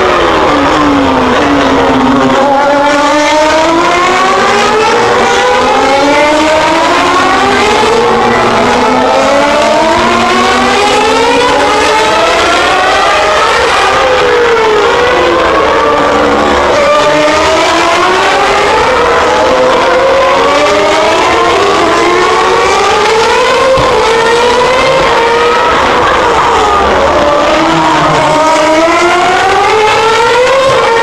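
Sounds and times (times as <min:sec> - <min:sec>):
racing car engines accelerating: 0:00.0 - 0:31.0.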